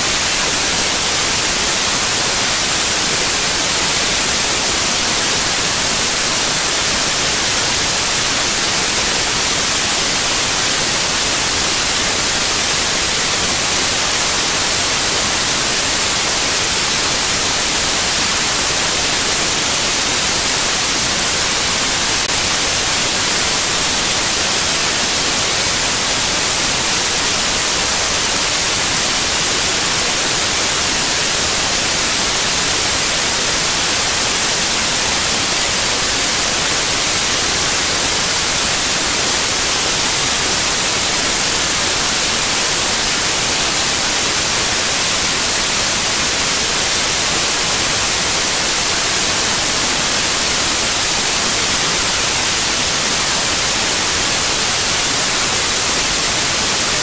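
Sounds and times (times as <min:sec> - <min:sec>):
static hiss: 0:00.0 - 0:57.0.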